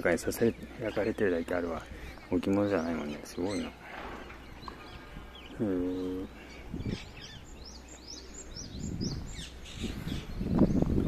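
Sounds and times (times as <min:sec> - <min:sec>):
small birds calling: 0:00.0 - 0:11.0.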